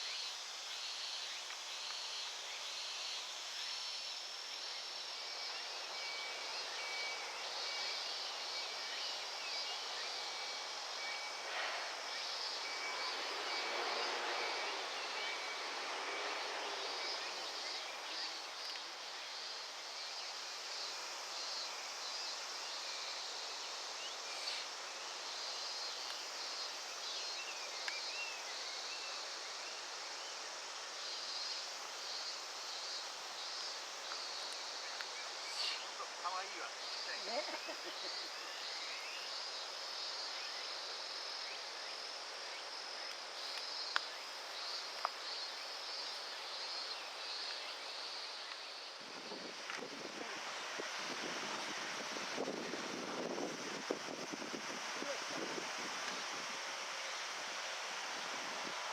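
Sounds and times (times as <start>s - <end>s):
cicadas sizzling: 0.0s - 58.9s
insect chirps: 0.0s - 58.9s.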